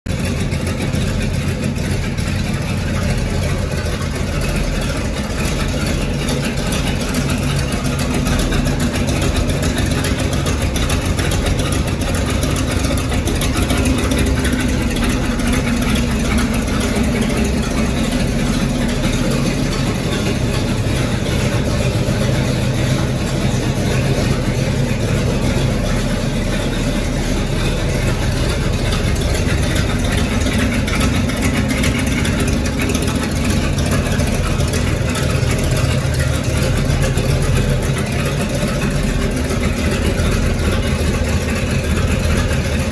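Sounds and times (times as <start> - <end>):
engine idling through open headers: 0.0 - 42.9.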